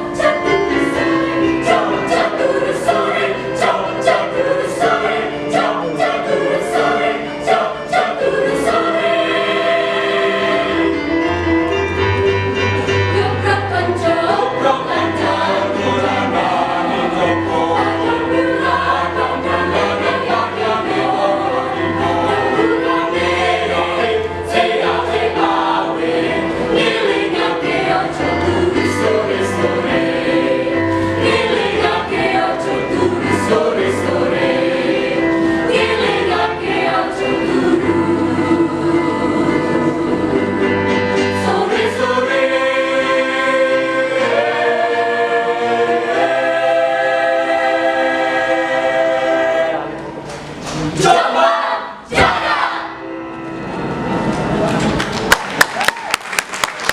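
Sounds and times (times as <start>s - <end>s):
mixed choir singing: 0.0s - 55.2s.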